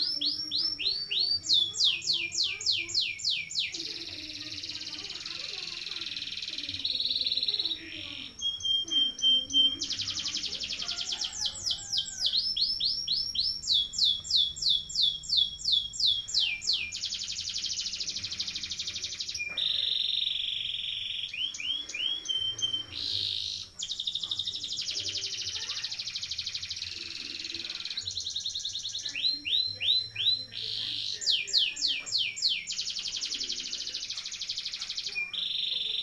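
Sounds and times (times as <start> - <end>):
canary singing: 0.0 - 36.0.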